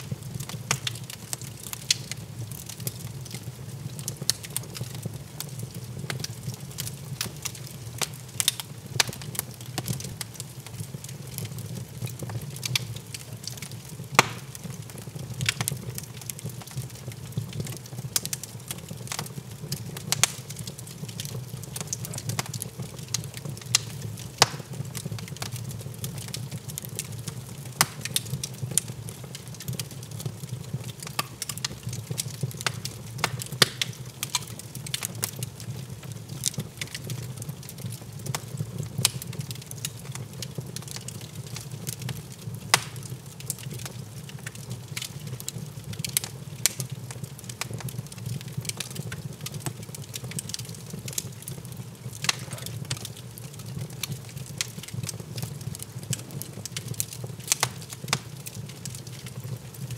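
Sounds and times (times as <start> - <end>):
low rumble of burning logs: 0.0 - 59.9
wood fire crackling: 0.0 - 59.9.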